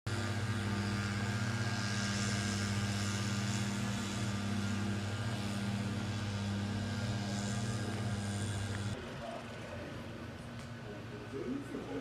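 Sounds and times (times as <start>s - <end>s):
steady motor hum: 0.1s - 12.0s.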